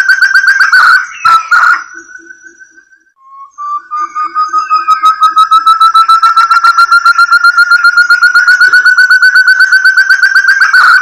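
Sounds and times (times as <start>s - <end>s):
rapid whistled bird call: 0.0s - 11.0s.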